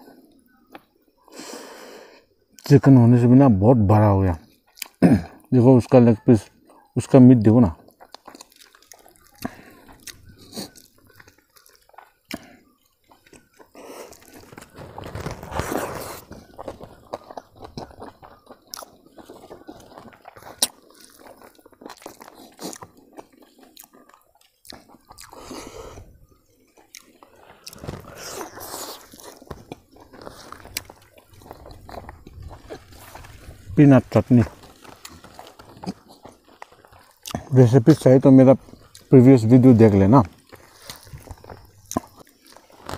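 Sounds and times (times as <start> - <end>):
man chewing food: 4.4 - 5.5, 6.4 - 7.0, 7.8 - 42.9.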